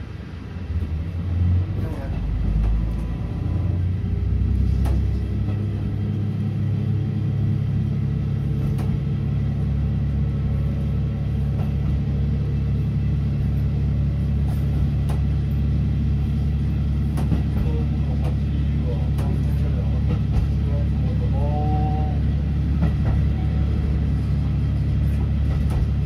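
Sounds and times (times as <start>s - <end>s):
diesel railcar engine drone: 0.0s - 26.0s.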